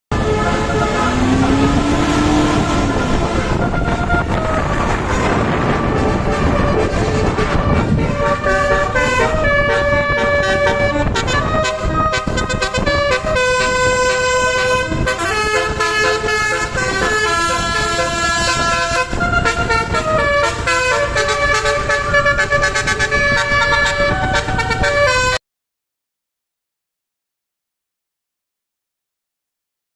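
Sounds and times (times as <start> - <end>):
bus horn playing a melody: 0.1 - 25.4.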